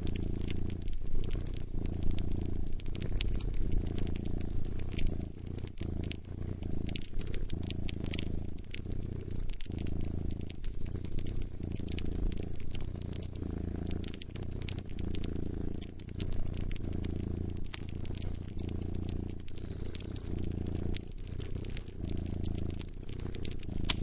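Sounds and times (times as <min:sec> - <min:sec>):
cat purring: 0:00.0 - 0:24.0
wood fire crackling: 0:00.0 - 0:24.0.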